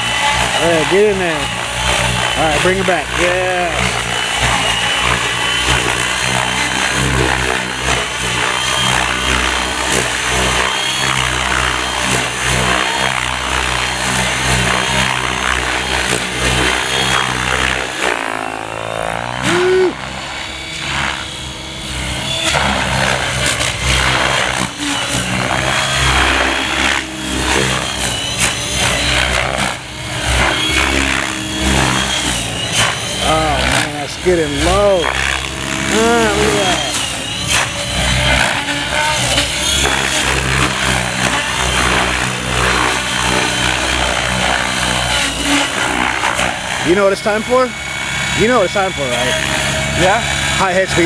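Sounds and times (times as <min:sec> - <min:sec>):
helicopter rotor drone: 0:00.0 - 0:51.0
motor and gear whine: 0:00.0 - 0:51.0.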